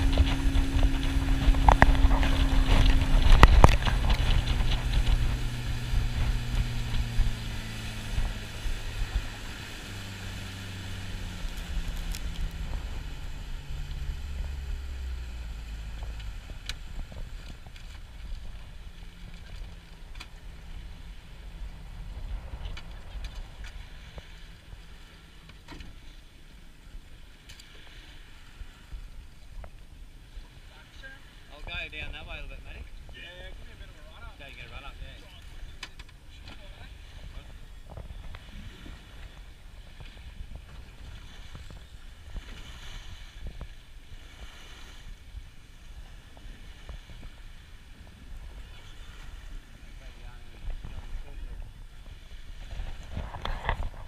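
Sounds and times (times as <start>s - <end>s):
outboard motor idling: 0.0s - 54.0s
waves lapping against boat hull: 0.0s - 54.0s
wind rumbling on microphone: 0.0s - 54.0s.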